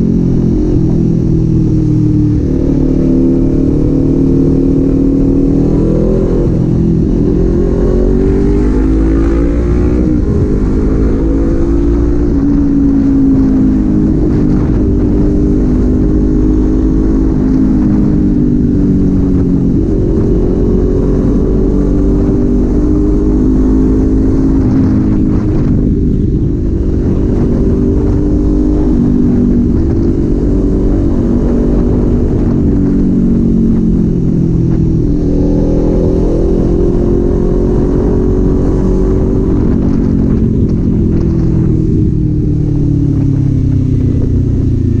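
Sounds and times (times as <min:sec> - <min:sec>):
motorcycle engine and exhaust: 0:00.0 - 0:45.0.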